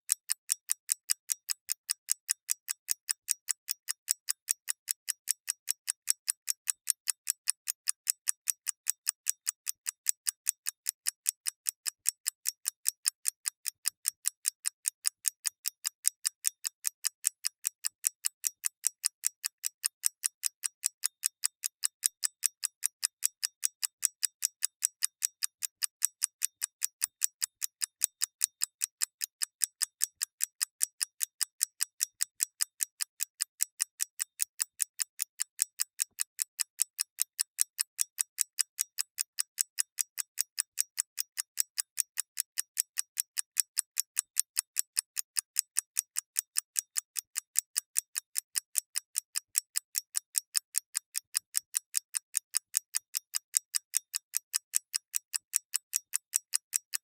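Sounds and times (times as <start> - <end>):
clockwork mechanism ticking: 1.9 - 50.6.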